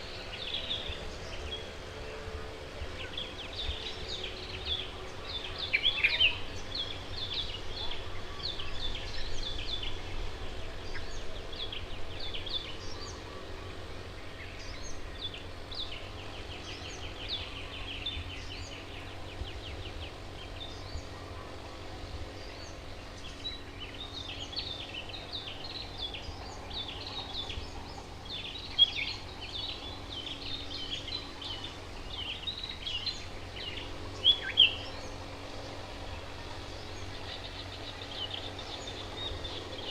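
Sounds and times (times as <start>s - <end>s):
low background rumble: 0.0s - 39.9s
songbirds chirping and calling: 0.0s - 39.9s.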